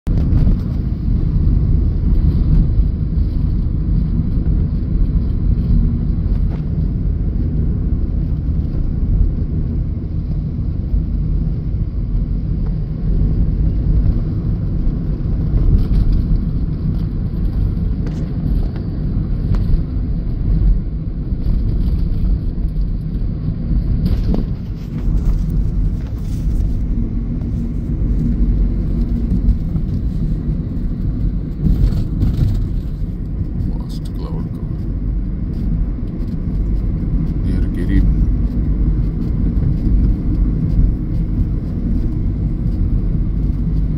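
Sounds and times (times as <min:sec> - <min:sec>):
road and engine rumble in car: 0:00.0 - 0:43.9.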